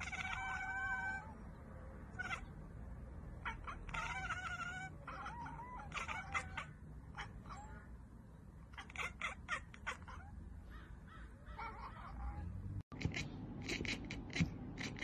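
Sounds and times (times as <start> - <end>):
cat chattering and chirping: 0.0 - 15.0.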